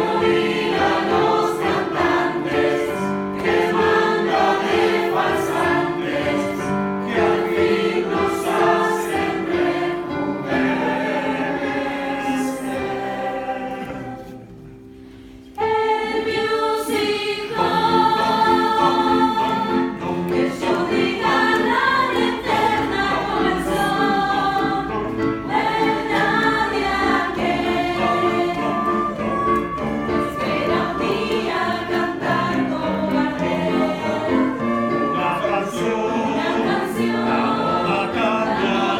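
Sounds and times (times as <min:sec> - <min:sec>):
youth choir singing: 0:00.0 - 0:14.7, 0:15.6 - 0:38.9.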